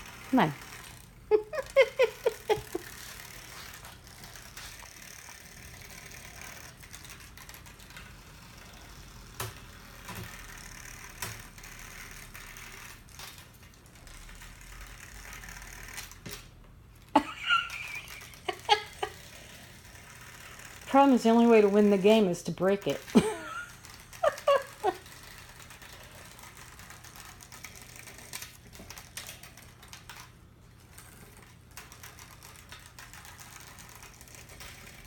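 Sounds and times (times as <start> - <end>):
toy motor whirring: 0.0 - 35.0.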